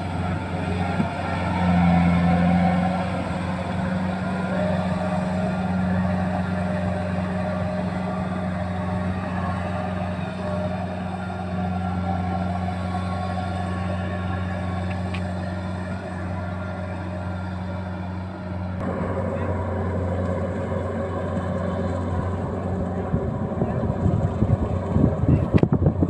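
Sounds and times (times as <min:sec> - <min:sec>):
combine harvester engine running: 0:00.0 - 0:26.0.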